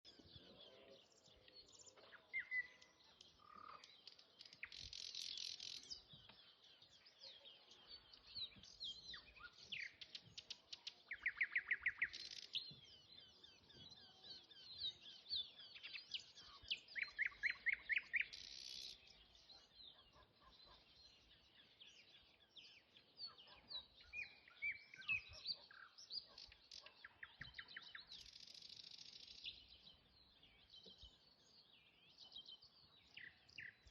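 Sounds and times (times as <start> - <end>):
nightingale singing: 0.0 - 33.9.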